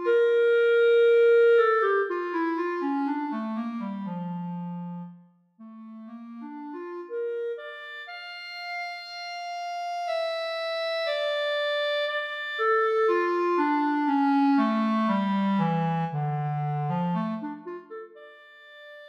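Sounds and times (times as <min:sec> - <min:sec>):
solo clarinet: 0:00.0 - 0:19.0.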